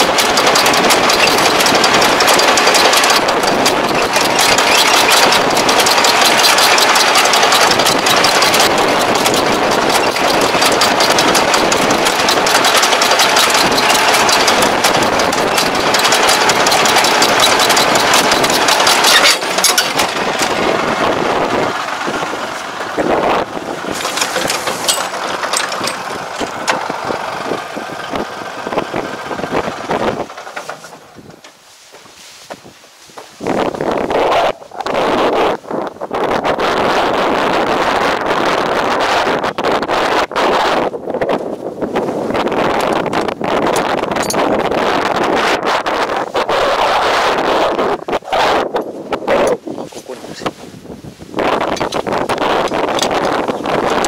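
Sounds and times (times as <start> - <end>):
clattering of tracks and implement: 0.0 - 50.6, 51.4 - 54.0
crawler tractor engine under load: 0.0 - 54.0.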